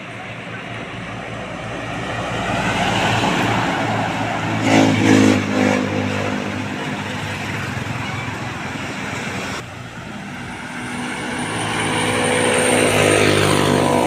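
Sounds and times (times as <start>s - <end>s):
diesel vehicle passing: 0.0s - 14.0s.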